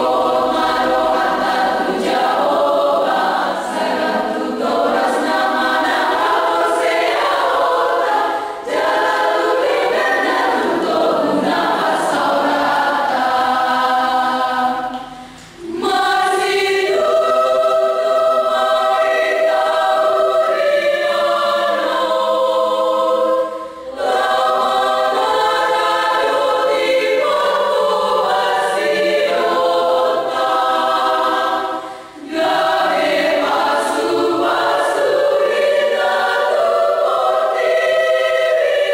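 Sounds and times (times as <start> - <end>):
women's choir singing: 0.0 - 38.9.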